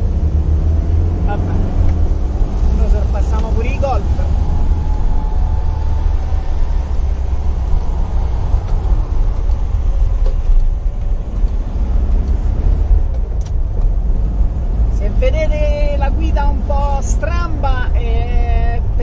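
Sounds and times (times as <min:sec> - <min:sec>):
car engine rumbling: 0:00.0 - 0:19.0
road noise: 0:00.0 - 0:19.0.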